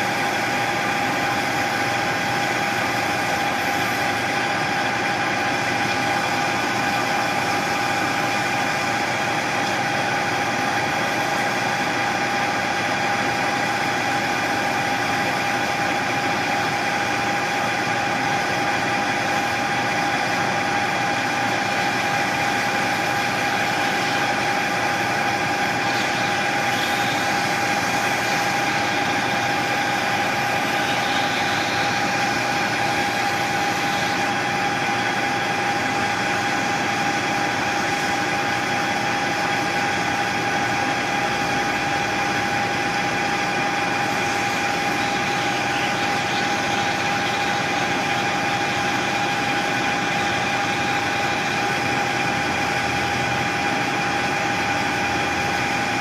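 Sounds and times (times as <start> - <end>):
machine tool whine and hiss: 0.0 - 56.0.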